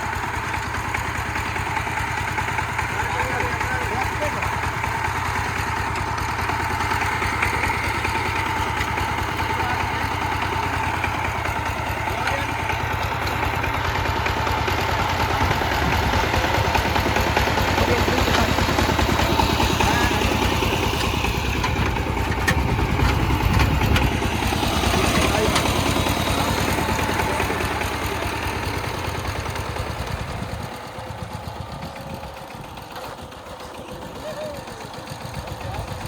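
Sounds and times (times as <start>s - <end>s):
tractor engine chugging: 0.0s - 36.0s.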